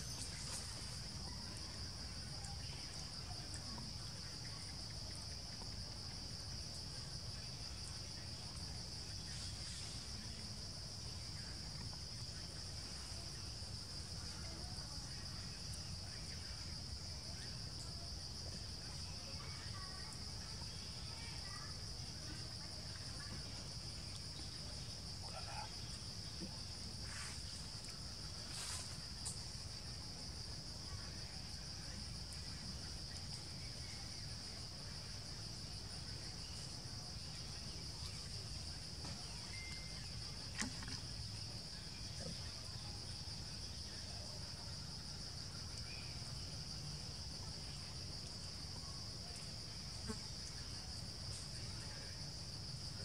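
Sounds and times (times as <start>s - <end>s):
insects droning: 0.0s - 53.0s.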